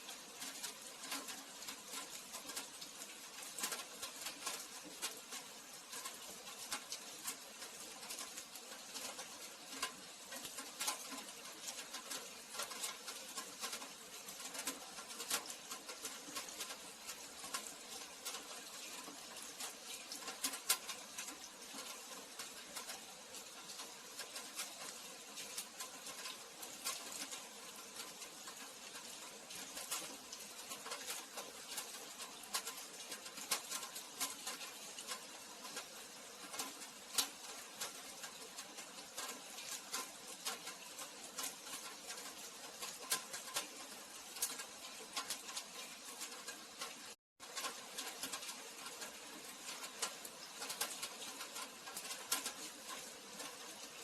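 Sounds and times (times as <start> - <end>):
rain drops pattering: 0.0 - 54.0.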